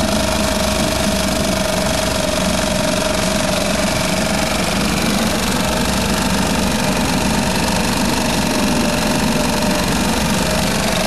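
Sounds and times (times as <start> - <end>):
outboard motor running: 0.0 - 11.0
propeller churning water: 0.0 - 11.0.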